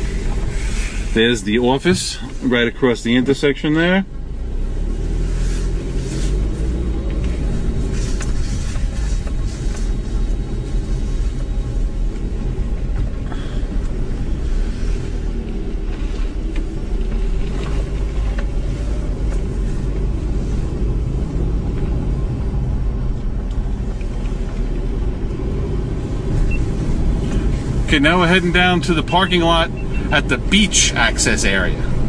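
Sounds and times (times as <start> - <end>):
car engine and tyres rumbling: 0.0 - 32.0.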